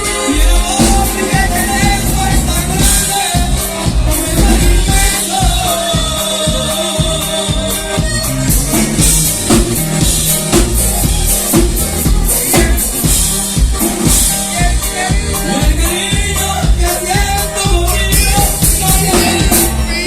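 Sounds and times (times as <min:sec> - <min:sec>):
bass: 0:00.0 - 0:20.0
drum kit beat: 0:00.0 - 0:20.0
live band playing: 0:00.0 - 0:20.0.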